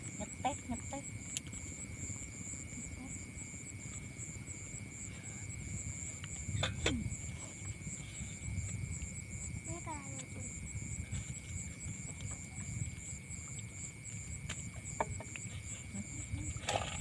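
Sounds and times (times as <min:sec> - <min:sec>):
pulsing insect trill: 0:00.0 - 0:17.0
wind rumble on microphone: 0:00.0 - 0:17.0.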